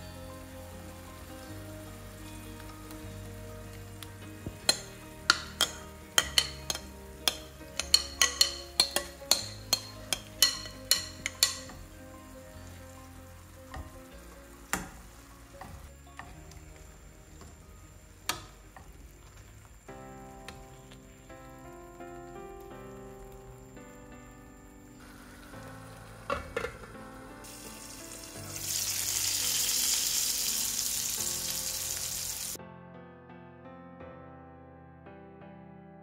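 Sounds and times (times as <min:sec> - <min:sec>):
oil frying in a pan: 0:00.0 - 0:22.4, 0:25.0 - 0:32.6.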